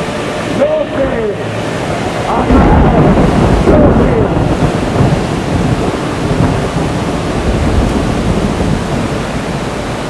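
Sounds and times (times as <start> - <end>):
flickering low rumble: 0.0 - 10.0
steady rushing noise: 0.0 - 10.0.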